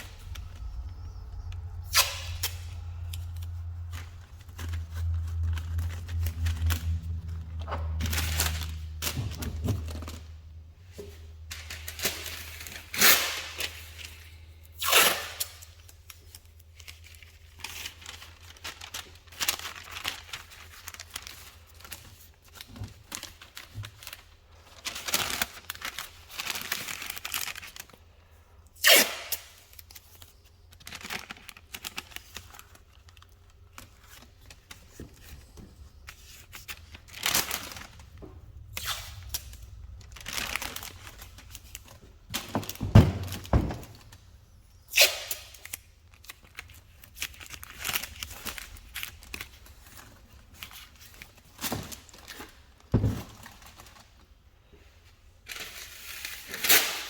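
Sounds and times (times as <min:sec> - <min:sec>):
tape and paper ripping and crinkling: 0:00.0 - 0:10.6, 0:11.3 - 0:28.0, 0:28.8 - 0:54.3, 0:55.4 - 0:57.0.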